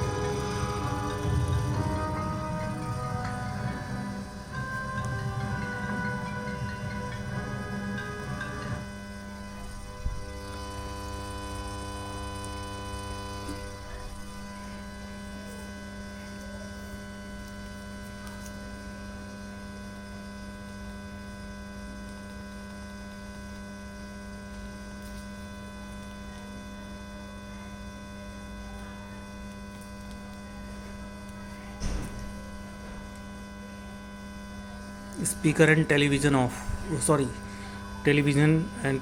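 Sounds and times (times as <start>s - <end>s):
constant whining tones: 0.0s - 39.0s
speaker hum and hiss: 0.0s - 39.0s.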